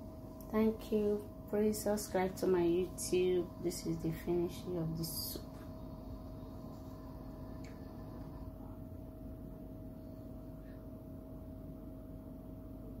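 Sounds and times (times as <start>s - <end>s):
mid-pitched appliance tone: 0.0s - 13.0s
room hum and hiss: 0.0s - 13.0s.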